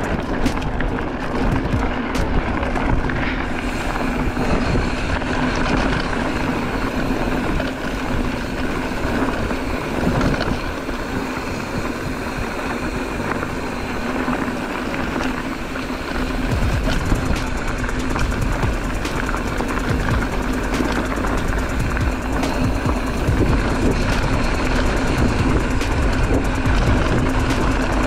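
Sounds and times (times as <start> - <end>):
bicycle tyre noise on trail: 0.0 - 28.0
wind rumble on microphone: 0.0 - 28.0.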